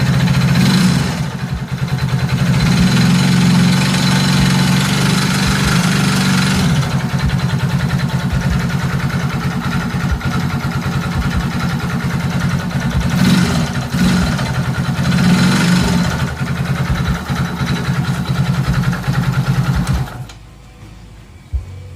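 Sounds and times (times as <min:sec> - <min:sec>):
engine idling: 0:00.0 - 0:20.4.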